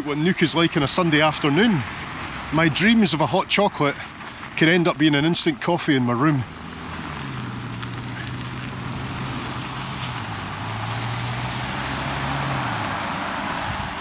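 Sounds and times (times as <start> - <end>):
car engine hum: 0.0 - 14.0
tyre and road noise: 0.0 - 14.0.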